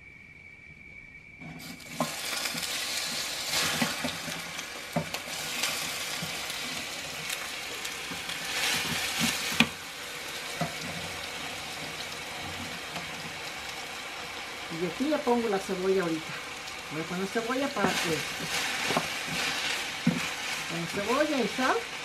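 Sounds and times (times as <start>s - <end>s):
hot oil sizzling and crackling: 1.4s - 22.0s.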